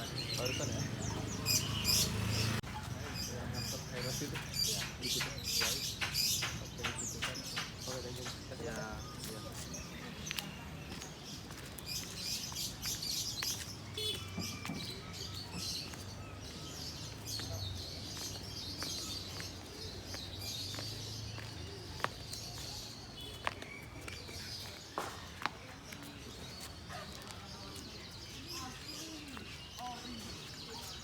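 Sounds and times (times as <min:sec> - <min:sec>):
caged birds chirping: 0:00.0 - 0:31.0.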